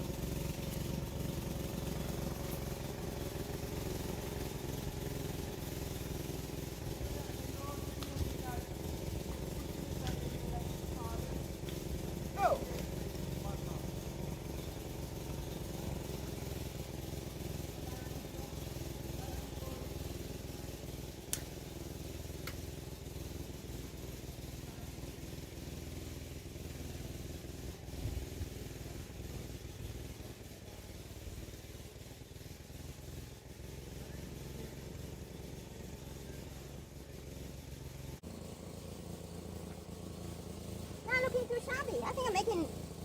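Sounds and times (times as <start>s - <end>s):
woodchipper motor humming: 0.0s - 43.0s.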